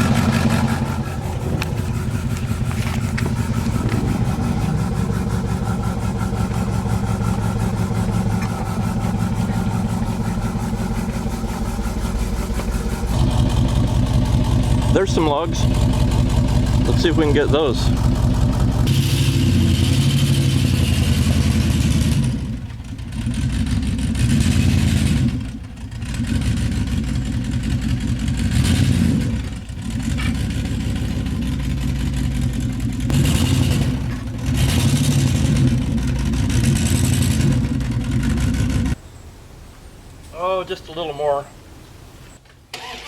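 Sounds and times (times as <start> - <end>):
vehicle engine running under load: 0.0 - 39.0.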